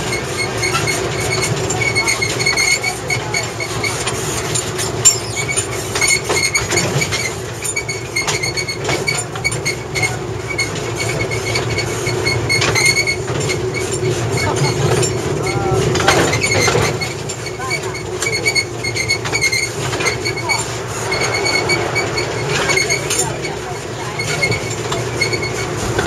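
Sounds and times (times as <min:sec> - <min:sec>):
high-pitched wheel squeal: 0:00.0 - 0:26.0
train rumbling along track: 0:00.0 - 0:26.0
wheels clicking over rail joints: 0:00.0 - 0:26.0.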